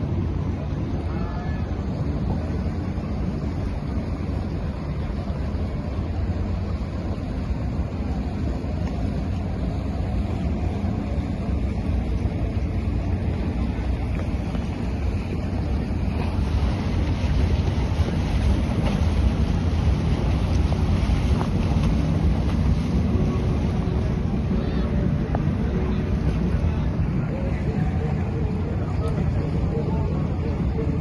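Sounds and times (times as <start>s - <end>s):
boat engine rumble: 0.0s - 31.0s
wind buffeting microphone: 0.0s - 31.0s.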